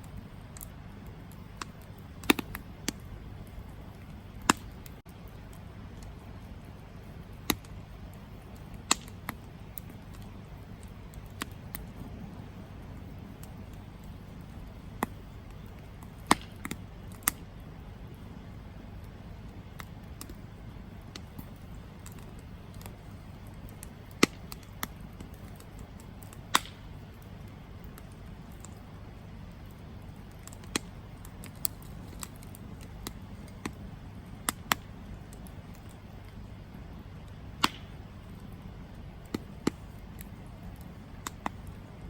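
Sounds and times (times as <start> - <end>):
campfire burning: 0.0 - 42.0.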